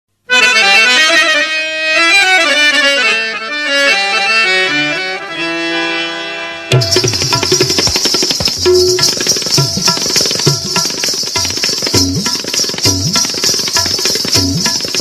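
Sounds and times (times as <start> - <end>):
free-reed instrument melody: 0.3 - 15.0.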